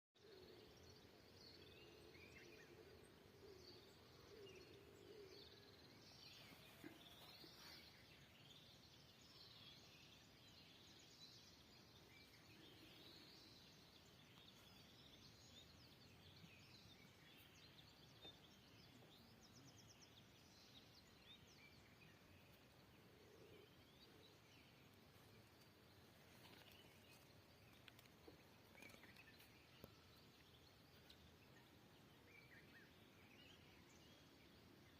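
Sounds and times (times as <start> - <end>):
small birds chirping and trilling: 0.2 - 34.9.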